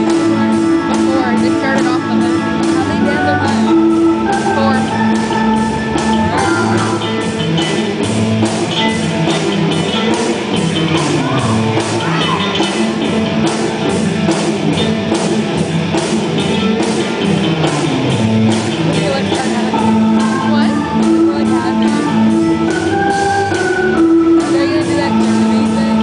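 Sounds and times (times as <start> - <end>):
rock band playing live: 0.0 - 26.0
steady drum beat: 0.0 - 26.0.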